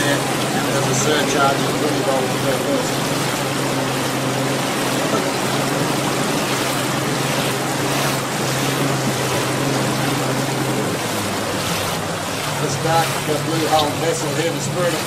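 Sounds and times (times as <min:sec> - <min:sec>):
boat engine humming: 0:00.0 - 0:15.0
water washing: 0:00.0 - 0:15.0.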